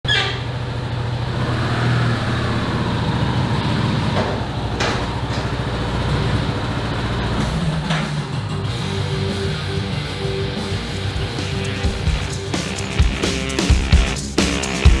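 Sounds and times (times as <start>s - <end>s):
motorcycle engine at low revs: 0.1s - 15.0s.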